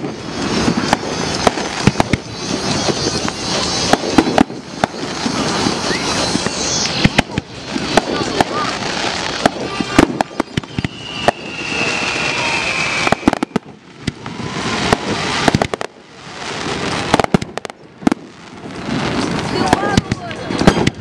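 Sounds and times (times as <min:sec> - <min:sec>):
fireworks bangs: 0:00.0 - 0:21.0
fireworks crackling: 0:00.0 - 0:21.0
whistling firework: 0:00.0 - 0:21.0.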